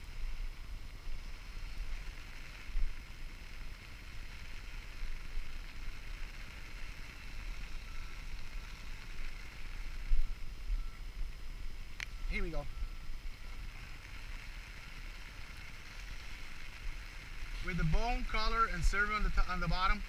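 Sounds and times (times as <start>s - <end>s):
light hiss of water: 0.0s - 20.0s
muffled wind: 0.0s - 20.0s.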